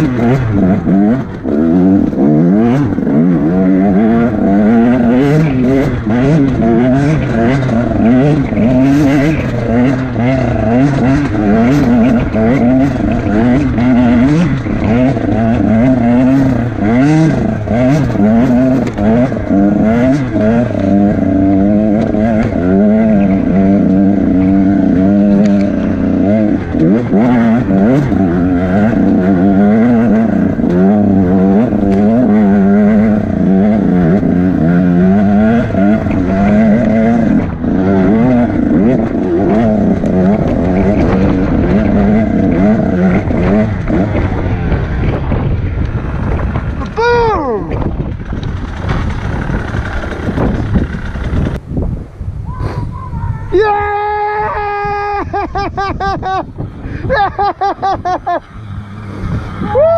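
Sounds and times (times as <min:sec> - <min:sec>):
motorcycle engine revving hard: 0:00.0 - 0:52.0, 0:54.9 - 0:59.9.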